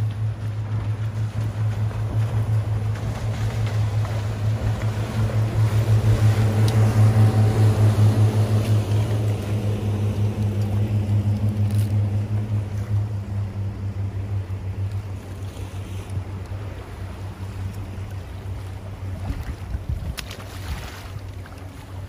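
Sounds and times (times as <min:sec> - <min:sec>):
motorboat engine passing: 0:00.0 - 0:22.0.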